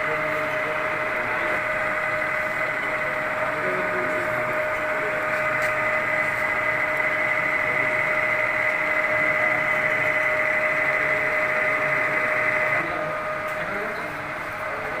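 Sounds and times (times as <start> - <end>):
lathe machine whine: 0.0 - 15.0.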